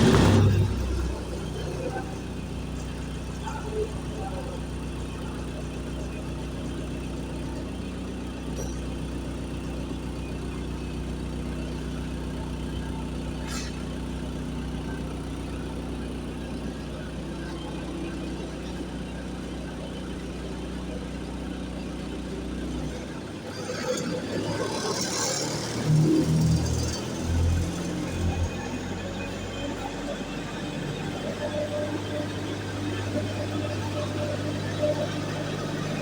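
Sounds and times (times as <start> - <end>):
diesel generator humming: 0.0 - 36.0.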